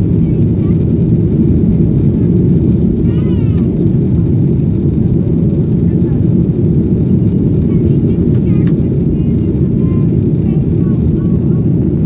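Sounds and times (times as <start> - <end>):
jet cabin noise: 0.0 - 12.0.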